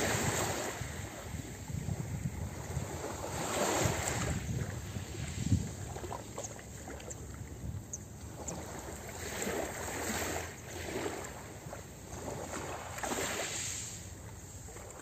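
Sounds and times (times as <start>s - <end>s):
waves lapping on pebbles: 0.0s - 7.2s, 8.3s - 15.0s.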